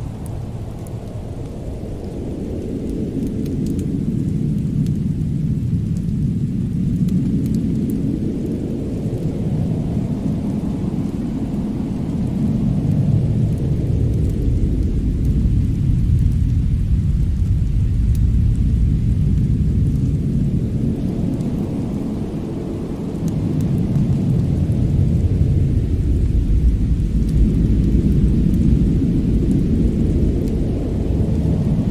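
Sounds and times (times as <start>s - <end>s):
faint crackles: 0.0s - 31.9s.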